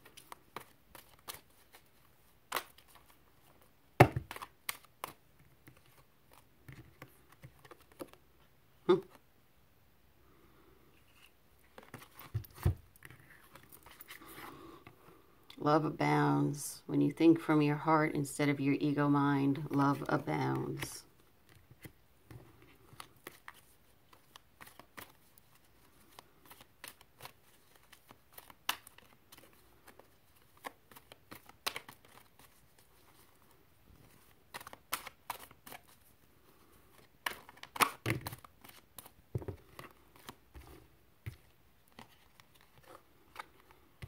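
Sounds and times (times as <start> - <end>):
cards being handled: 0.0 - 9.2, 11.0 - 14.9, 19.5 - 44.0.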